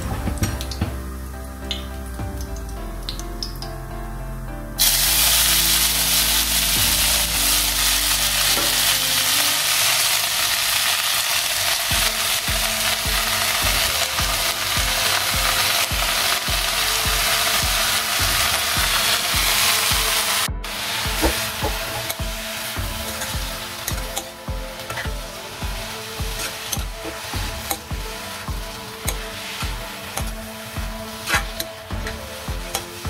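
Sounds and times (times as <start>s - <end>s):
leaves sizzling in hot fat: 4.8s - 33.0s.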